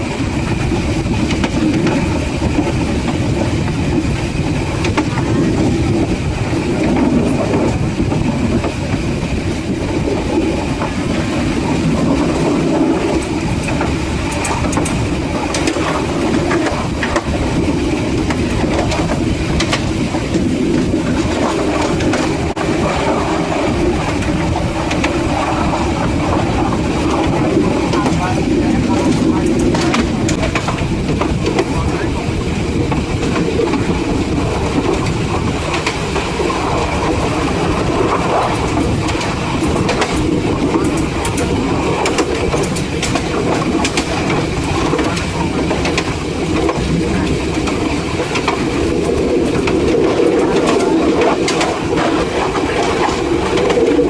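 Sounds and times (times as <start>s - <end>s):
train rumbling on track: 0.0s - 54.0s
train wheels clicking: 0.0s - 54.0s.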